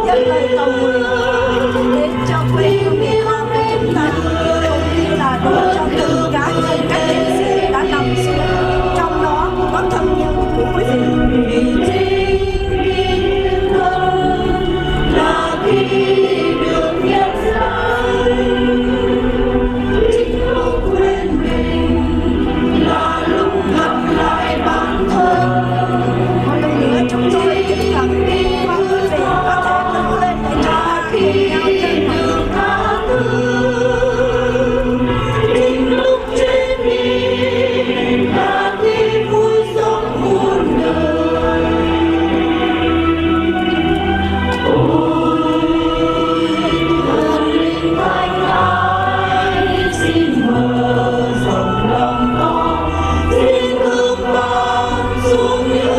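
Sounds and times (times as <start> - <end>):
choir singing slow song: 0.0 - 55.9.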